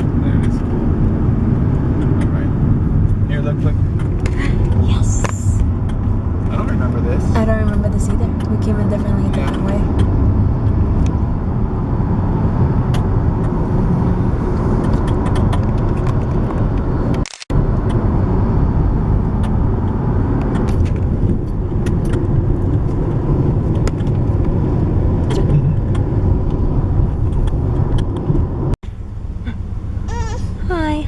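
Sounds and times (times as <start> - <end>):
road and engine rumble in car: 0.0 - 31.0.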